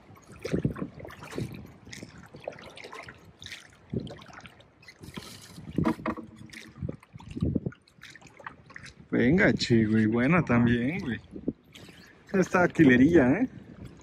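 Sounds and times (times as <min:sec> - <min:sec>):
water sloshing against a rowboat: 0:00.0 - 0:14.0.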